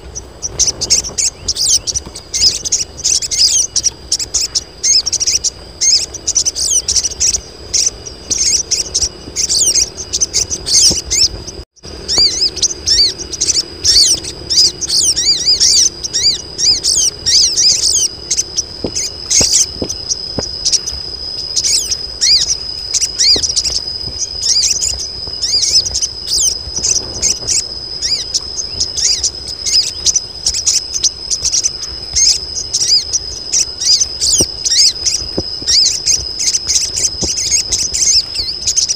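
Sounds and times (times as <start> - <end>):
birds chirping rapidly: 0.0 - 38.9
high-pitched whine: 0.0 - 38.9.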